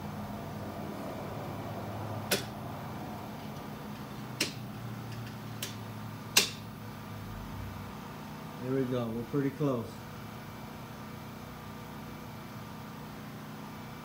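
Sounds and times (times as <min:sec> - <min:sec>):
low shop hum: 0:00.0 - 0:14.0.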